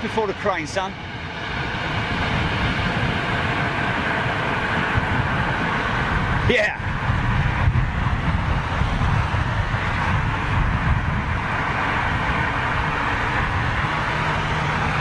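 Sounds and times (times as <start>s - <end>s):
jet airliner engines taking off: 0.0s - 15.0s.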